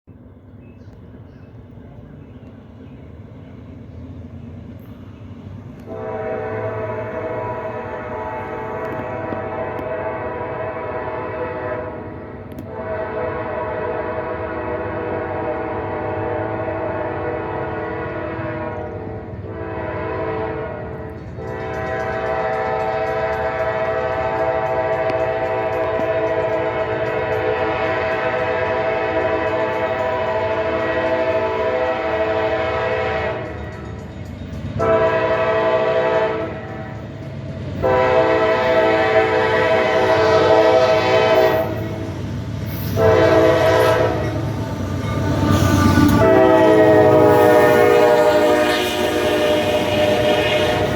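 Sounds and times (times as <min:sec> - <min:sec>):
train rumbling: 0:00.0 - 0:50.9
locomotive air horn blasts: 0:05.8 - 0:33.6, 0:34.8 - 0:37.0, 0:37.8 - 0:50.9.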